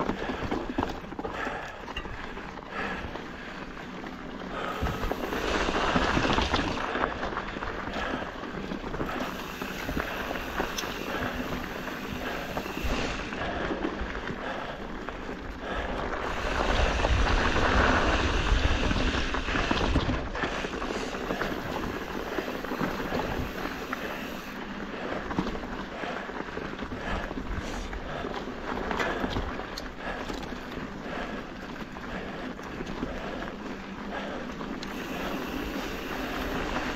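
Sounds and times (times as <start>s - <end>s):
bike tyres and rattle on dirt: 0.0s - 36.9s.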